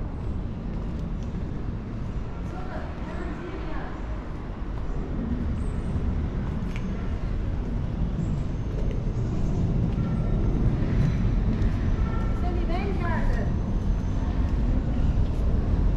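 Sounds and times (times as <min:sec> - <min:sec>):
city ambience rumble: 0:00.0 - 0:15.9.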